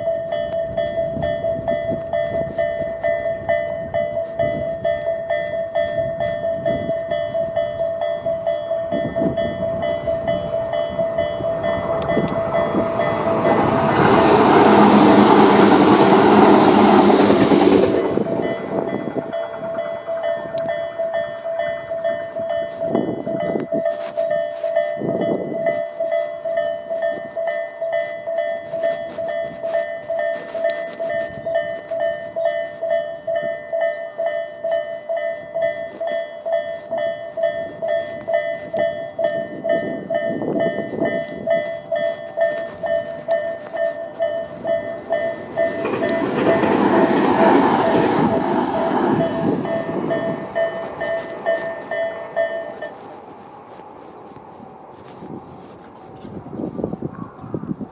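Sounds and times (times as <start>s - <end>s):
level crossing warning bells: 0.0s - 57.1s
electric train passing: 0.0s - 57.9s.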